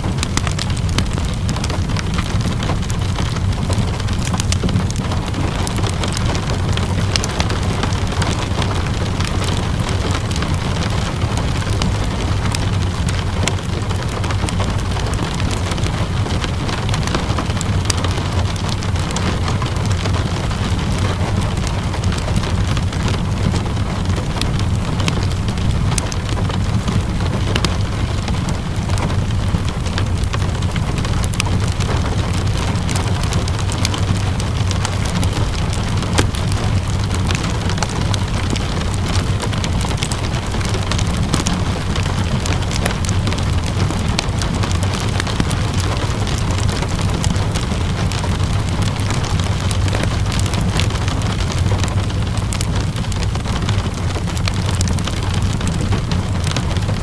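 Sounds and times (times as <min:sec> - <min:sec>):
low rumble: 0:00.0 - 0:57.0
steady rainfall: 0:00.0 - 0:57.0
wood fire crackling: 0:00.0 - 0:57.0.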